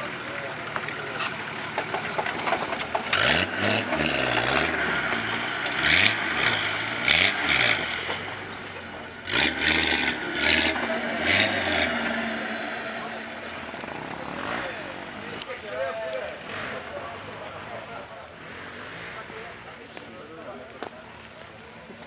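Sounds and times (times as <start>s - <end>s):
off-road vehicle engine revving: 0.0s - 19.9s.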